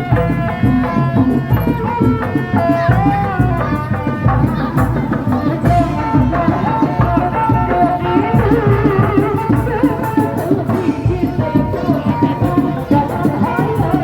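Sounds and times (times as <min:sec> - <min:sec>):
hand drums beating: 0:00.0 - 0:14.0
ornamented melody line: 0:00.0 - 0:14.0.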